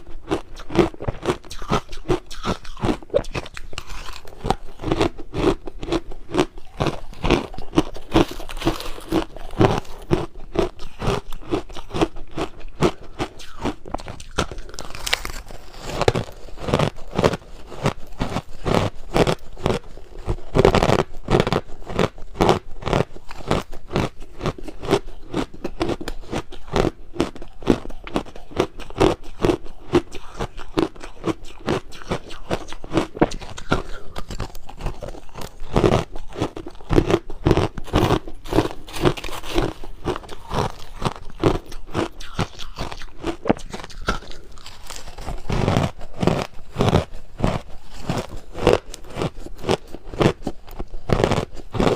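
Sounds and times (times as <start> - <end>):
chewing crushed ice: 0.0 - 51.9.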